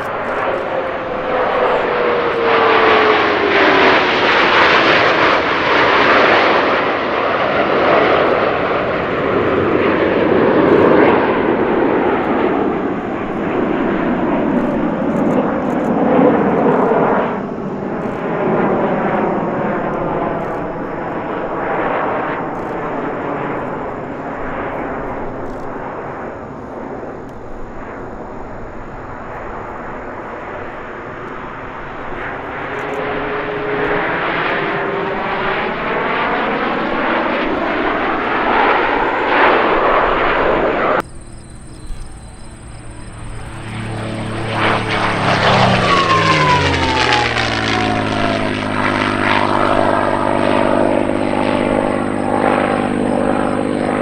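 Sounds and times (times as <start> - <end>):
jets flying past: 0.0 - 54.0.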